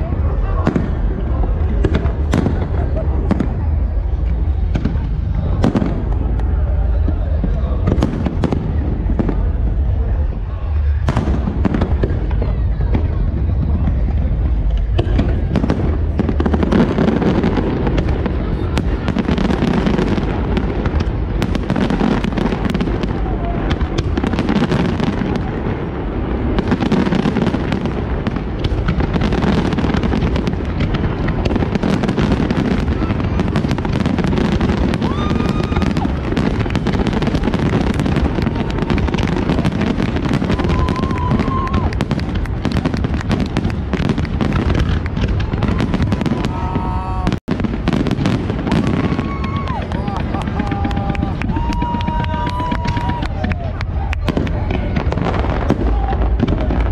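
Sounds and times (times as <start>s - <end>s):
fireworks booming and banging: 0.0s - 56.9s.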